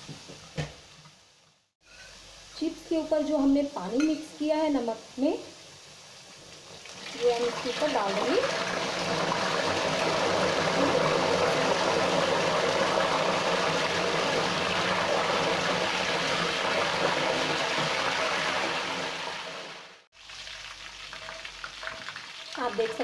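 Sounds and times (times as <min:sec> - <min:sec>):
potatoes sizzling in hot oil: 0:01.8 - 0:23.0.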